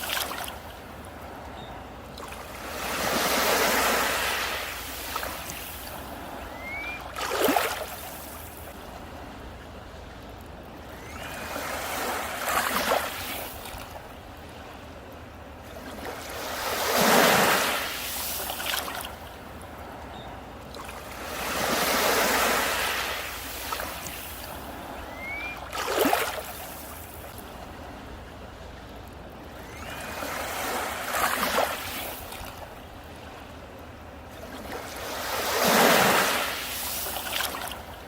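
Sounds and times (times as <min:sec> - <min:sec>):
sea waves breaking on a beach: 0:00.0 - 0:38.0.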